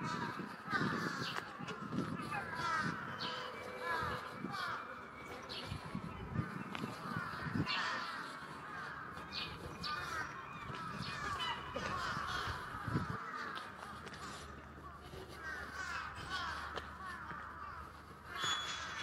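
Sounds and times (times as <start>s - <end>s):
crows cawing: 0.0s - 19.0s.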